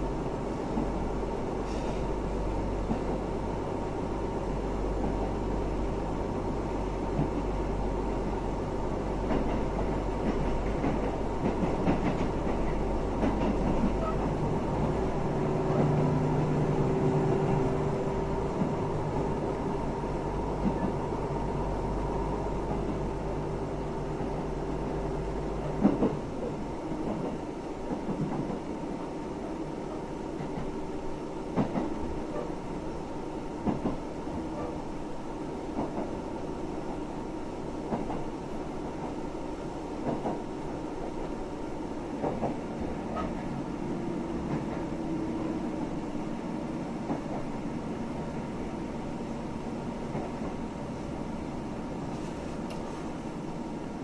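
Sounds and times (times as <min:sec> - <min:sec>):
train rumble inside carriage: 0:00.0 - 0:54.0.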